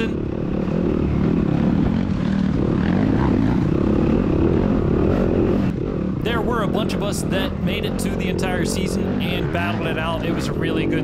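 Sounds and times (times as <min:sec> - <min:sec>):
motorcycle engine revving under load: 0:00.0 - 0:11.0.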